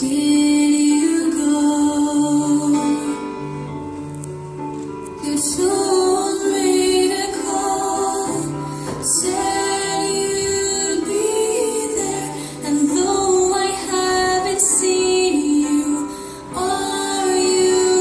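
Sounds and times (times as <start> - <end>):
song with female vocal: 0.0 - 4.1, 4.8 - 18.0.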